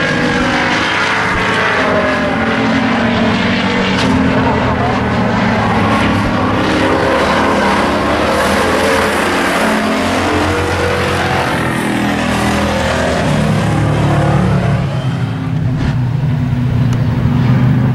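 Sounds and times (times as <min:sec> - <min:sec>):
race car engines at full throttle: 0:00.0 - 0:17.9.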